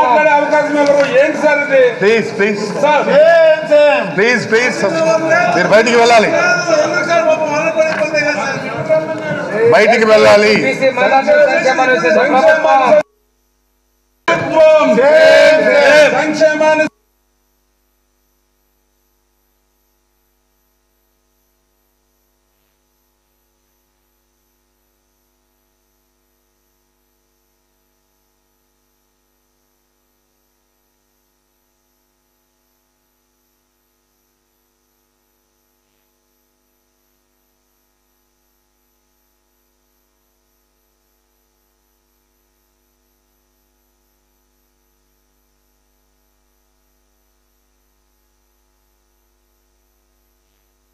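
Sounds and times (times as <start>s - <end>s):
faint electrical mains hum: 0.0s - 50.9s.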